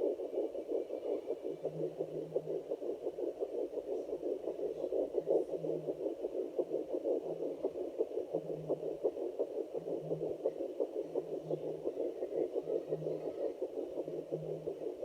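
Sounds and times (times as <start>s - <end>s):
fast whooshing fetal heartbeat: 0.0s - 15.0s.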